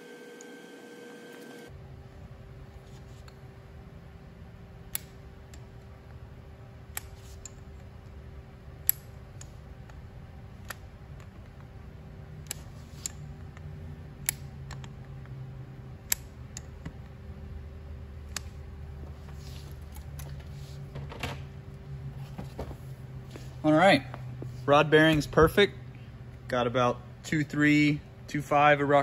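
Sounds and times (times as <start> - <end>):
steady low hum: 1.7 - 29.0.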